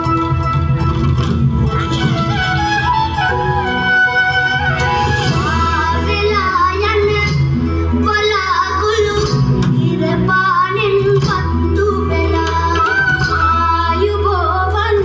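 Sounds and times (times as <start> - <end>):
music with steady bass line: 0.0 - 15.0.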